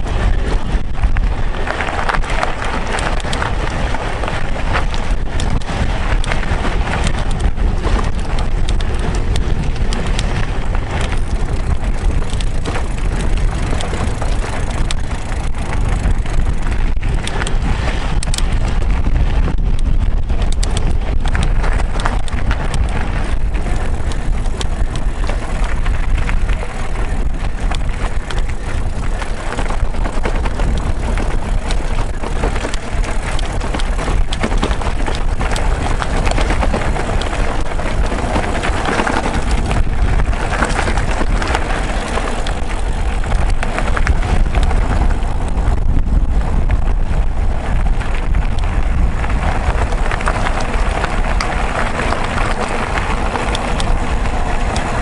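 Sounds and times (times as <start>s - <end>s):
bike tyres rattling over gravel: 0.0s - 55.0s
wind rumble on microphone: 0.0s - 55.0s.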